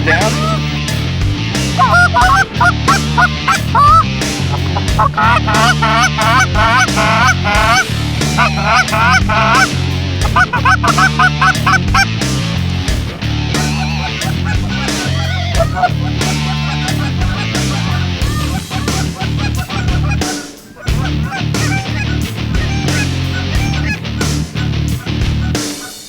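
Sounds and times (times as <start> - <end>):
goose honking and clucking: 0.0 - 0.6, 1.7 - 12.1, 13.2 - 26.0
background music with bass: 0.0 - 26.0.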